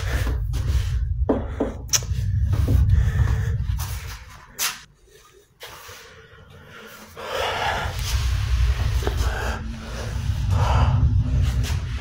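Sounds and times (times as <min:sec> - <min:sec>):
man breathing hard into microphone: 0:00.0 - 0:12.0.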